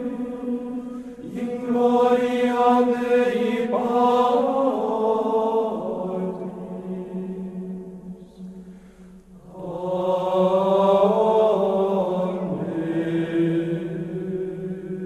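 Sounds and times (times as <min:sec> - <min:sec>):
voices singing a chant: 0:00.0 - 0:08.7, 0:09.4 - 0:15.0.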